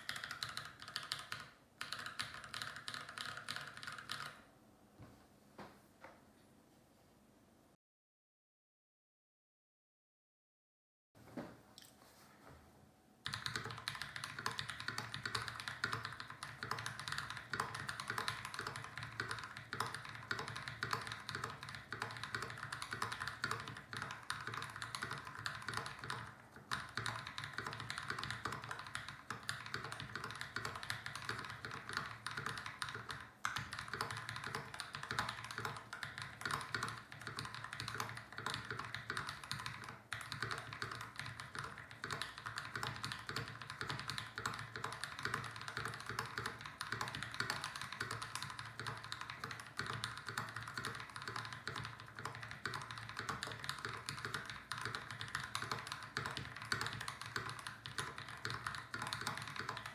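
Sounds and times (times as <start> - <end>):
mechanical keyboard key clacks: 0.0 - 4.4, 13.2 - 59.9.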